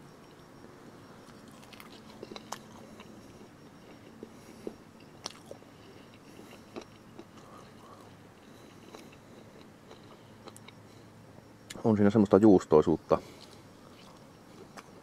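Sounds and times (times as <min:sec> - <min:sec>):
man chewing: 0:01.1 - 0:11.8, 0:13.2 - 0:15.0.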